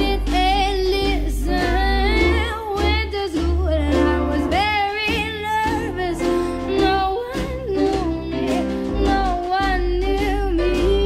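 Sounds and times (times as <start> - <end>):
bass line: 0.0 - 11.0
guitar: 0.0 - 11.0
person singing: 0.0 - 11.0
song through speakers: 0.0 - 11.0.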